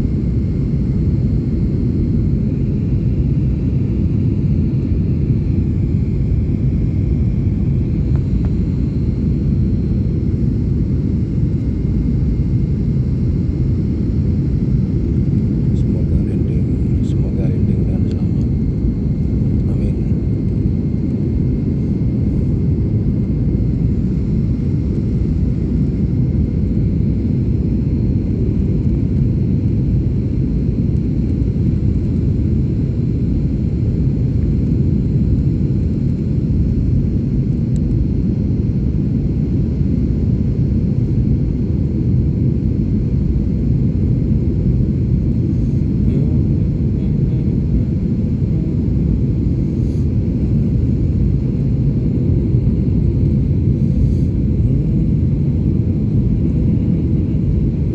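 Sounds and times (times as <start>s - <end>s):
airliner cabin engine rumble: 0.0s - 57.9s
faint thin whine: 0.0s - 57.9s.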